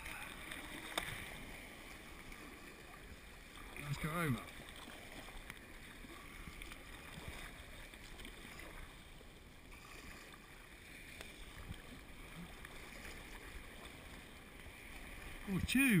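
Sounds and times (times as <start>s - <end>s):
water sloshing around kayak: 0.0s - 16.0s.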